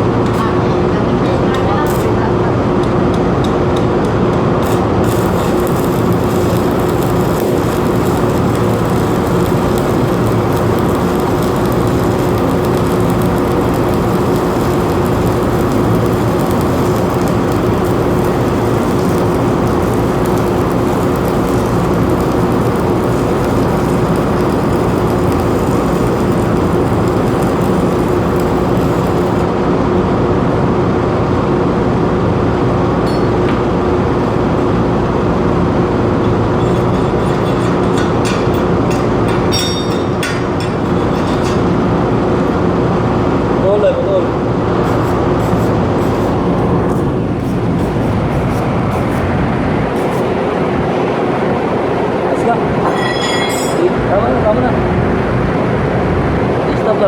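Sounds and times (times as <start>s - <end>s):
loud machine hum: 0.0s - 56.8s.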